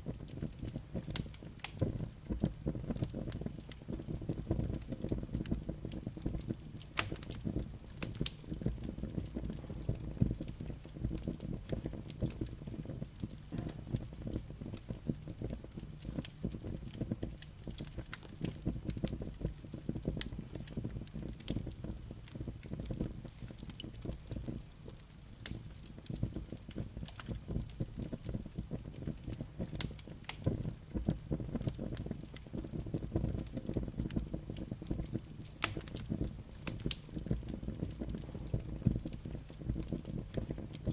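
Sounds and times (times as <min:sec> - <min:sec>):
fire rumbling: 0:00.0 - 0:40.9
logs crackling and popping: 0:00.0 - 0:40.9.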